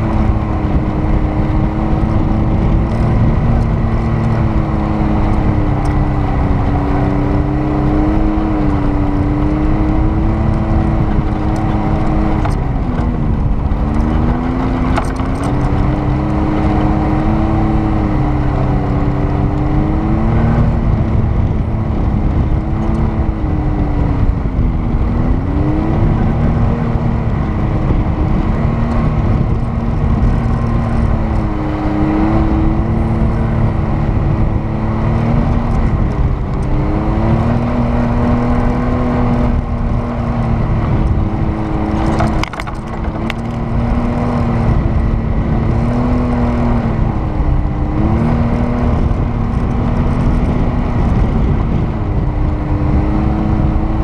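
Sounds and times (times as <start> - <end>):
low rumble: 0.0 - 54.0
vehicle engine driving on sand: 0.0 - 54.0.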